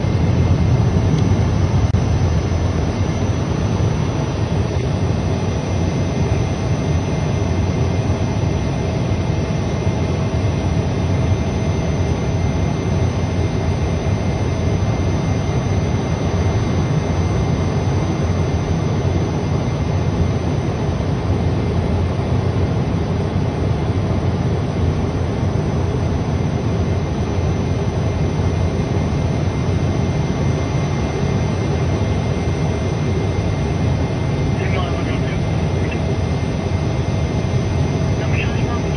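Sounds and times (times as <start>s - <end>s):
airliner cabin engine hum: 0.0s - 38.9s
faint steady whines: 0.0s - 38.9s.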